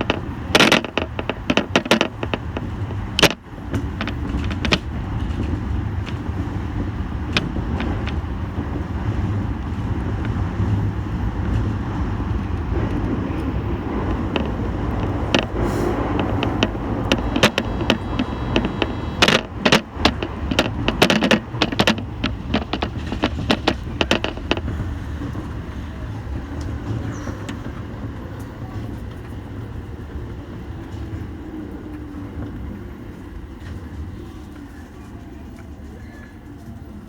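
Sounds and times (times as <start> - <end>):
subway train rumble: 0.0 - 37.0
wheels clacking over rail joints: 0.0 - 37.0.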